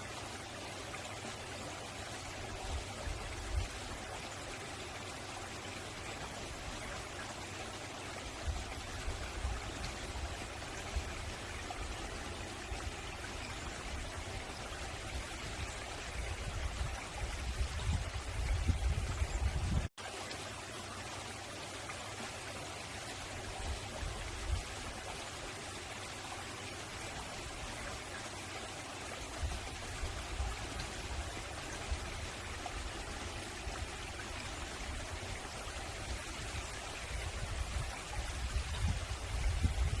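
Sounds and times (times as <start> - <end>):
stream flowing over rocks: 0.0 - 40.0.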